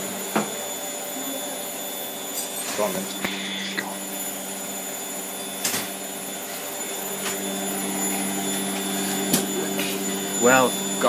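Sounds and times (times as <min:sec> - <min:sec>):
washing machine spinning hum: 0:00.0 - 0:11.0.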